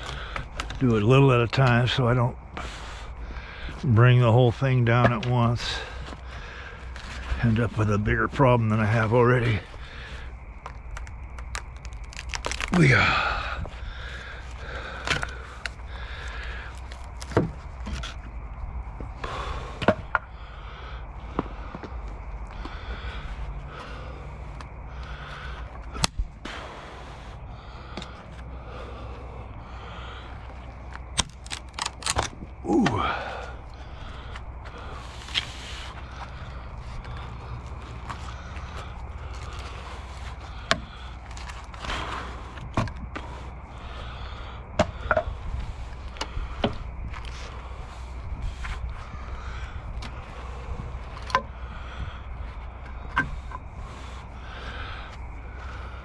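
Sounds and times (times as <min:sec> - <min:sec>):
steady low rumble: 0:00.0 - 0:56.0.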